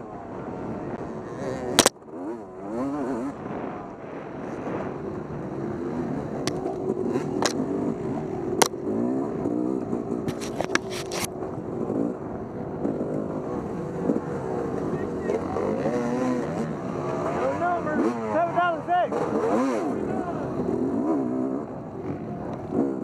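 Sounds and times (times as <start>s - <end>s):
dirt bike engine revving: 0.5s - 23.0s.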